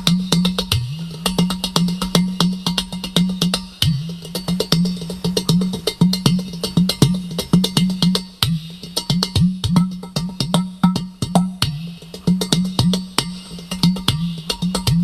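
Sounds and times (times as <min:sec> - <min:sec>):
clay pot drum playing: 0:00.0 - 0:15.0.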